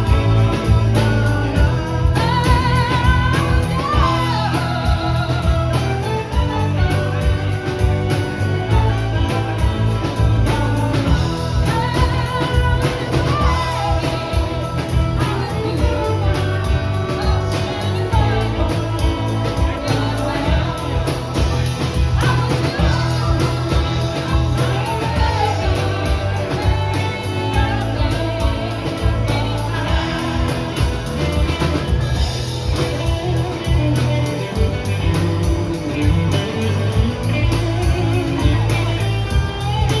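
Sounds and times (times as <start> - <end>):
electric guitar: 0.0 - 40.0
person singing: 0.0 - 40.0
steady bass line: 0.0 - 40.0.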